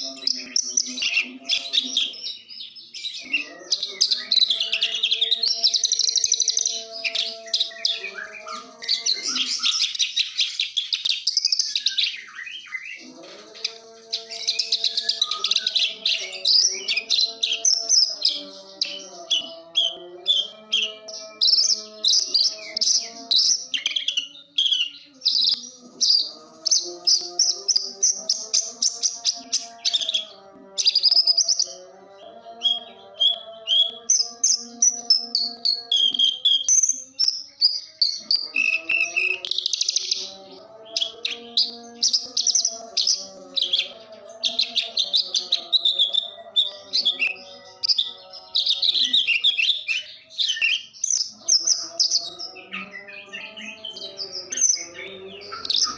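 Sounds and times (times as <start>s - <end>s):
bird singing chirps and trills: 0.0s - 55.9s.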